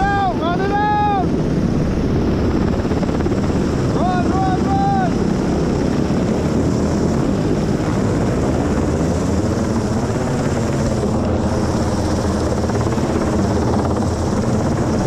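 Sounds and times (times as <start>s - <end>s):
helicopter hovering overhead: 0.0s - 15.0s.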